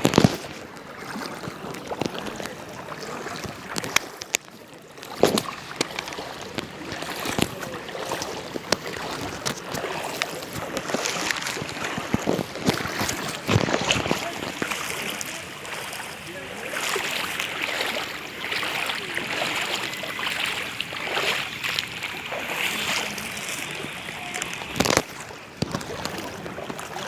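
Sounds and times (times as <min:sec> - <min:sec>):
louder splashes: 0:00.0 - 0:27.0.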